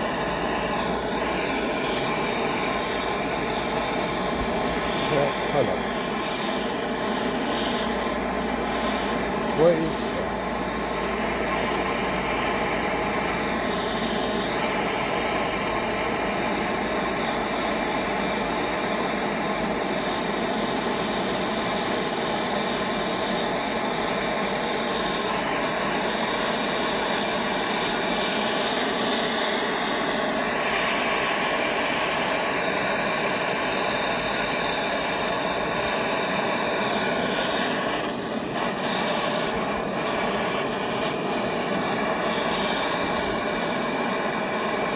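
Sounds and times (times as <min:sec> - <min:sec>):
gas torch flame hissing: 0:00.0 - 0:44.9.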